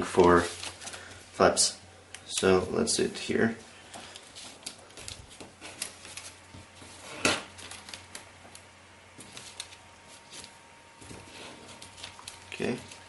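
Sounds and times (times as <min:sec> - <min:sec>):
paper rustling and crinkling: 0:00.0 - 0:01.3, 0:03.8 - 0:13.0.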